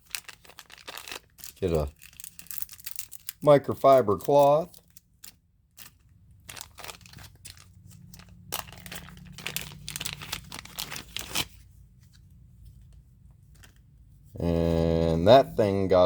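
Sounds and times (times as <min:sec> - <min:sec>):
plastic packaging crinkling: 0:00.0 - 0:12.2, 0:12.8 - 0:13.8.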